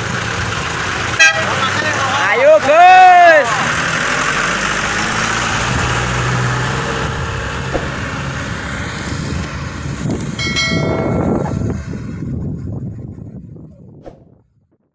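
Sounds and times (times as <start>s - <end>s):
truck engine driving away: 0.0s - 13.3s.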